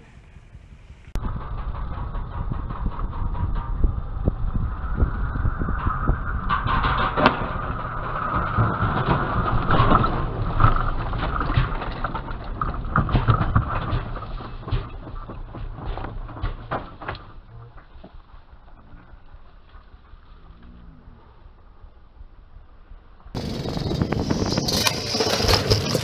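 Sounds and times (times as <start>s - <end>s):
low rumble: 0.0s - 26.0s
bikes crashing: 1.0s - 20.2s, 23.4s - 26.0s
knocks rattles and scrapes: 1.0s - 20.2s, 23.3s - 26.0s.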